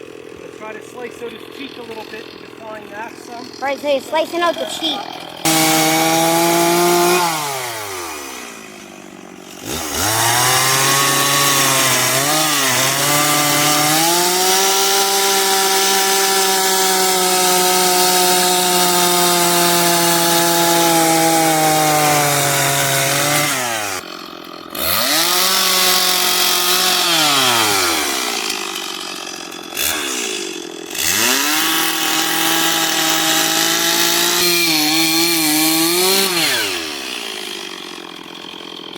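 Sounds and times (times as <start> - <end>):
chainsaw cutting into log: 0.0 - 38.9.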